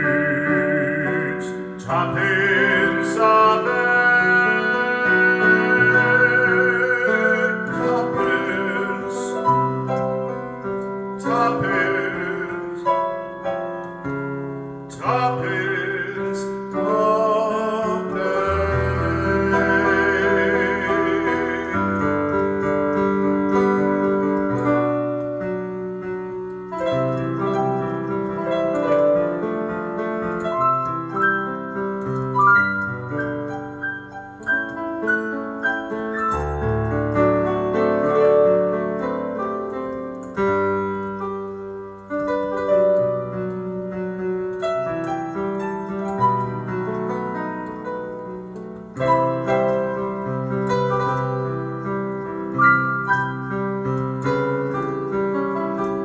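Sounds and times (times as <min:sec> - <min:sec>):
digital piano melody: 0:00.0 - 0:56.0.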